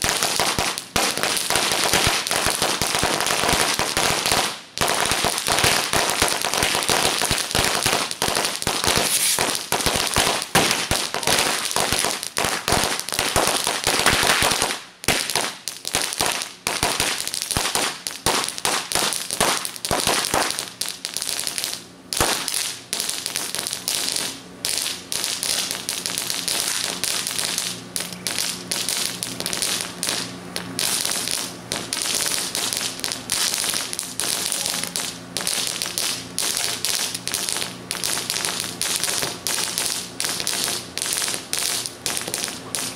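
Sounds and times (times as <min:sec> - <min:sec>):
firecrackers banging: 0:00.0 - 0:42.9.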